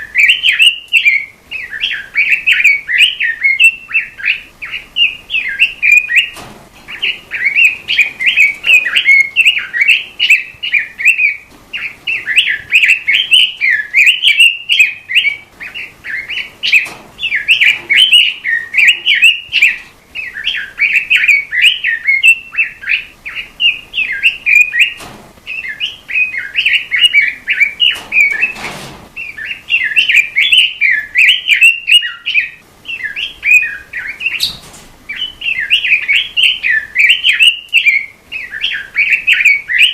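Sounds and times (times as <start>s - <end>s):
songbird warbling: 0.0s - 28.6s, 29.2s - 39.9s.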